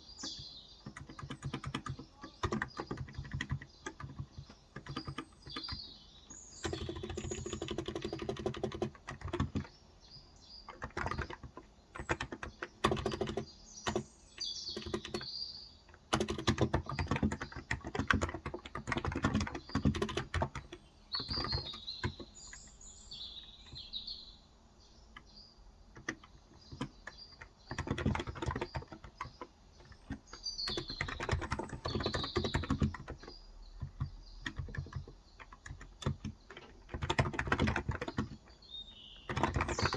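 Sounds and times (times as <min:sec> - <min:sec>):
keyboard typing: 0:00.0 - 0:09.8, 0:10.7 - 0:15.3, 0:15.9 - 0:22.8, 0:25.9 - 0:39.9
birds chirping: 0:00.0 - 0:39.9.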